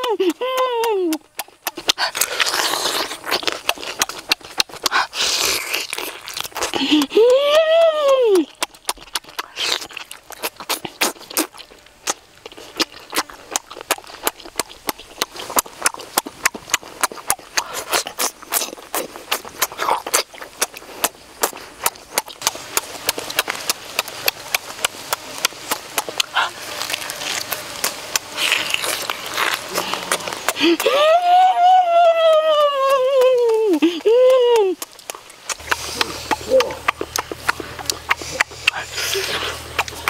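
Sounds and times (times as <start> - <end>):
chewing and lip-smacking: 0.0 - 40.0.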